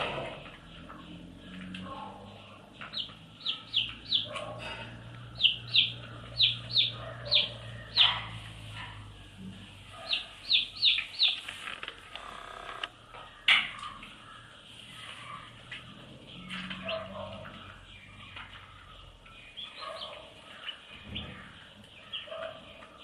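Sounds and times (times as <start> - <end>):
baby chicks peeping: 0.0 - 23.0.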